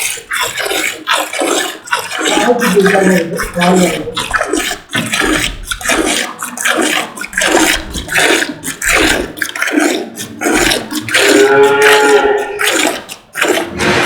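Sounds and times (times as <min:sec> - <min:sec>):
milk squirting into a pail: 0:00.0 - 0:14.0.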